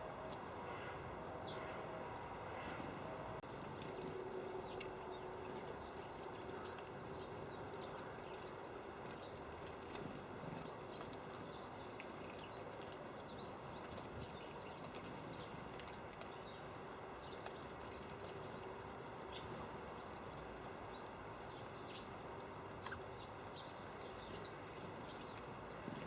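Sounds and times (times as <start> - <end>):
outdoor background hiss: 0.0 - 26.0
small birds chirping: 3.5 - 26.0.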